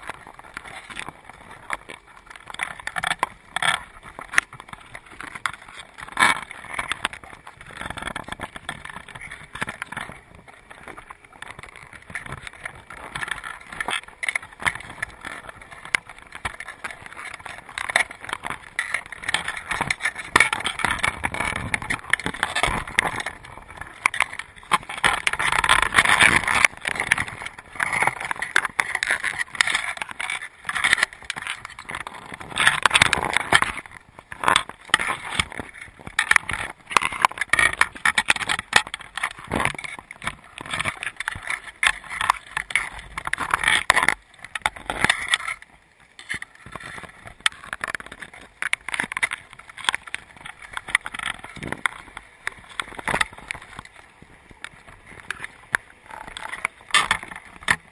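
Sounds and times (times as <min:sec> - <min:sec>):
crabs clicking and scraping: 0:00.0 - 0:57.9.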